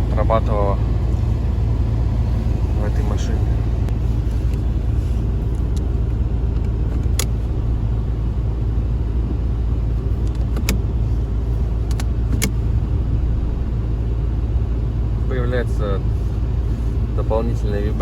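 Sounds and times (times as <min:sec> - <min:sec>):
diesel engine rumble: 0:00.0 - 0:18.0.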